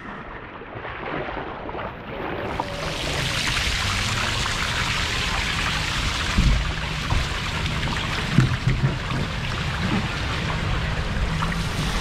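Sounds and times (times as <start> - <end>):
water running down a slide: 2.0 - 12.0.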